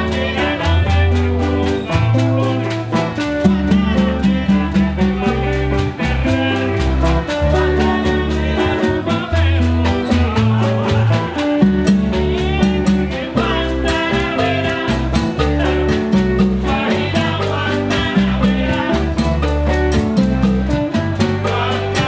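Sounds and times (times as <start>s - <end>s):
congas: 0.0s - 22.0s
electric guitars: 0.0s - 22.0s
salsa band playing: 0.0s - 22.0s
shakers: 0.0s - 22.0s.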